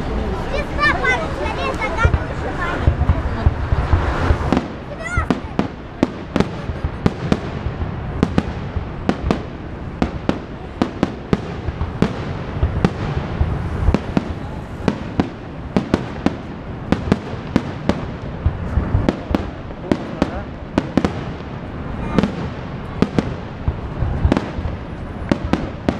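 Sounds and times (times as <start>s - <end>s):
fireworks cracking and banging: 0.0s - 25.9s
rumble of distant explosions: 0.0s - 25.9s.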